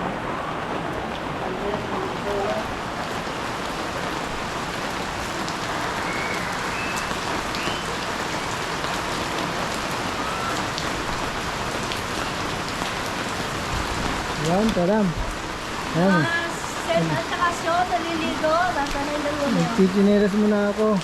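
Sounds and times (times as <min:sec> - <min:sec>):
steady rain hissing: 0:00.0 - 0:21.0
raindrop ticks: 0:00.9 - 0:19.9.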